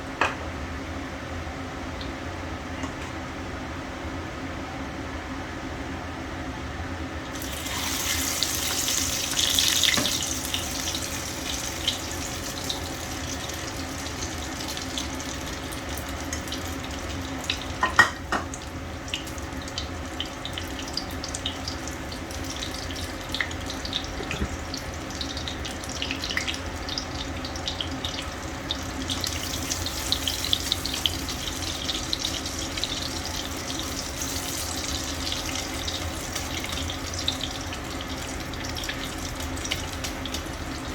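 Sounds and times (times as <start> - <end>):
water running from a tap into a sink: 7.3 - 40.9.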